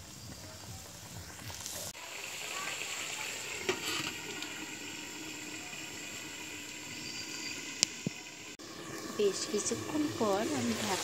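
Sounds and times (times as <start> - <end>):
fire popping: 0.0 - 11.0
wood fire hissing: 0.0 - 11.0.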